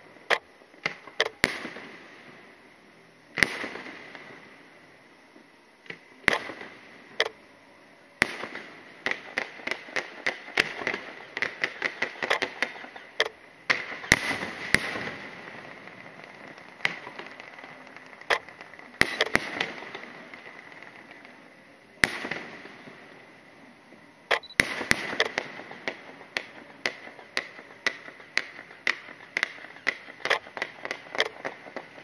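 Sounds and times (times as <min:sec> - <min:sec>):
fireworks bangs: 0:00.0 - 0:02.7, 0:03.3 - 0:05.0, 0:05.8 - 0:07.4, 0:08.1 - 0:32.0
fireworks crackling hiss: 0:00.0 - 0:32.0.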